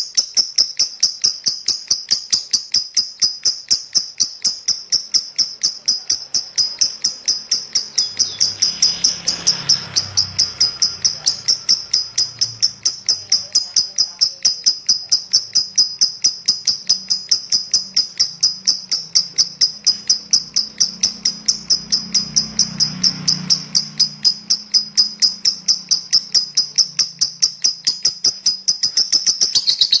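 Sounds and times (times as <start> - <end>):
lovebird shrill chirping chatter: 0.0 - 30.0.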